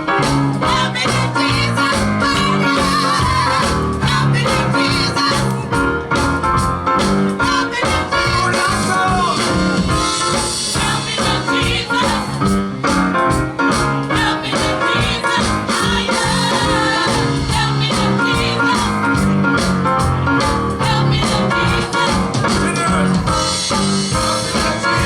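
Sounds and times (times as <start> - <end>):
group singing gospel: 0.0 - 6.0, 7.2 - 12.9, 13.7 - 25.0
steady drum beat: 0.0 - 25.0.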